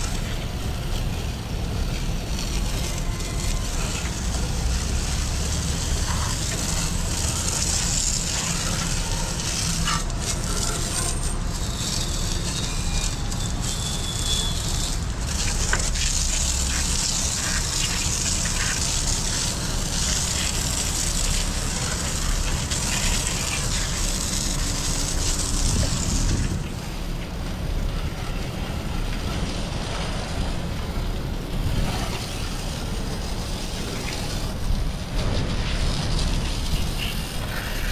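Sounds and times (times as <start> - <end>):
hose spraying water on deck: 0.0 - 37.9.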